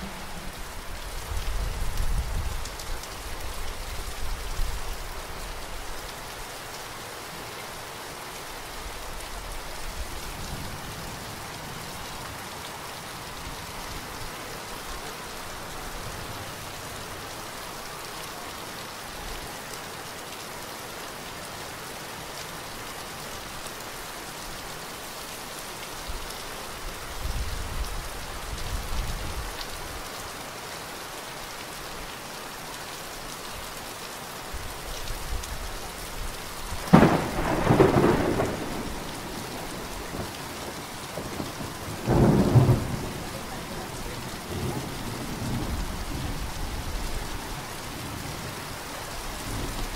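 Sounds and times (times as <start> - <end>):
heavy rain on standing water: 0.0 - 49.9.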